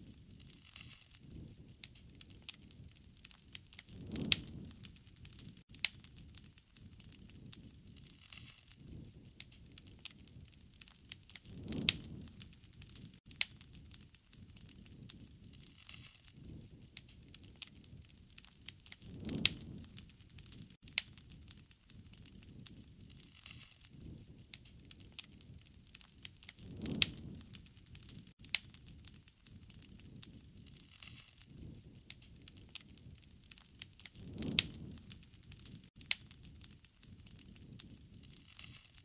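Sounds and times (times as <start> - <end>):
low rushing of fire: 0.0 - 39.0
wood fire crackling: 0.0 - 39.0.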